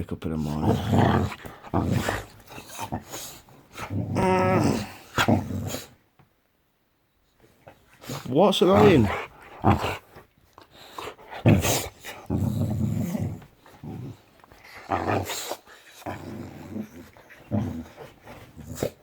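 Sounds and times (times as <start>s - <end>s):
dog growling: 0.4s - 6.0s, 8.0s - 10.2s, 10.8s - 19.0s.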